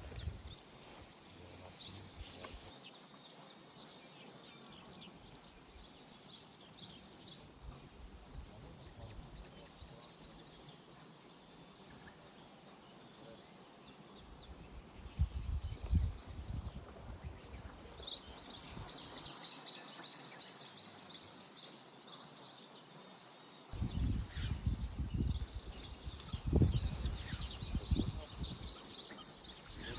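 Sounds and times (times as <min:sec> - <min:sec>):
outdoor background noise: 0:00.0 - 0:29.9
small birds singing: 0:00.0 - 0:29.9.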